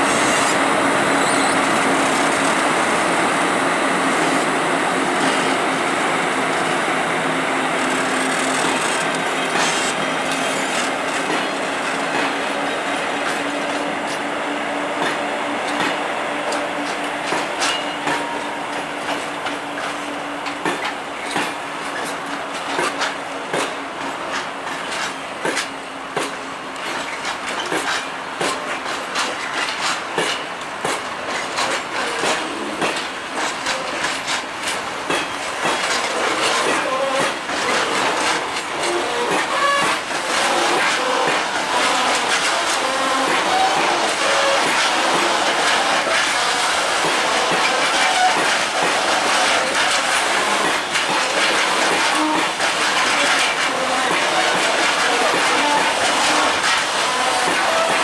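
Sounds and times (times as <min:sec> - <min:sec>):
train wheels clicking over rail joints: 0:06.6 - 0:14.3, 0:14.9 - 0:58.0.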